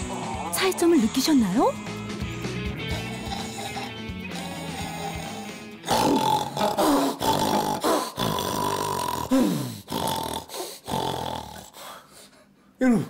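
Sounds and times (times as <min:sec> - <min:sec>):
man imitating snoring: 0:00.0 - 0:00.8, 0:01.7 - 0:12.0.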